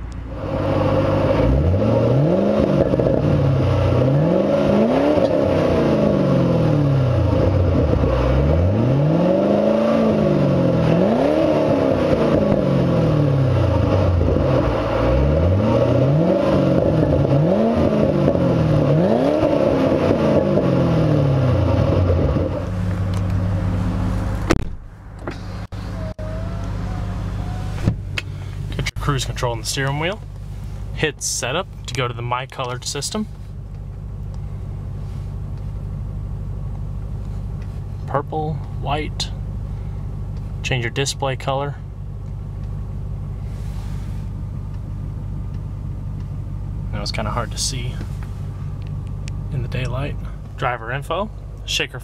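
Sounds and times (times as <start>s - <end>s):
car engine revving and idling: 0.0s - 52.0s.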